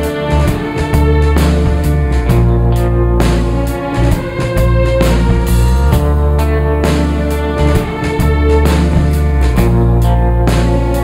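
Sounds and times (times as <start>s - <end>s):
guitar bass and drum music: 0.0s - 11.0s.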